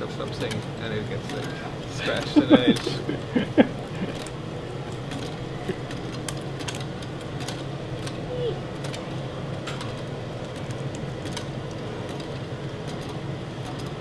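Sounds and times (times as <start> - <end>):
steady room hum: 0.0 - 14.0.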